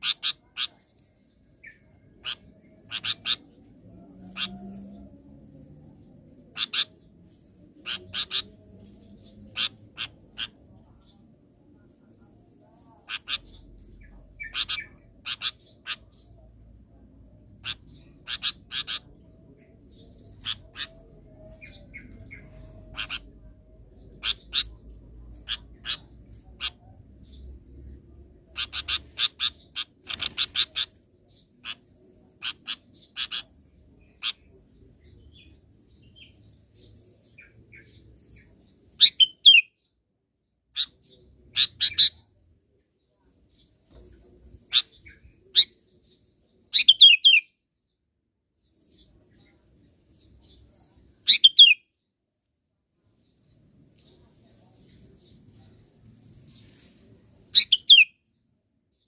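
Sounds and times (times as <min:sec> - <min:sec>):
bird chirping: 0:00.0 - 0:52.1, 0:53.0 - 0:59.0.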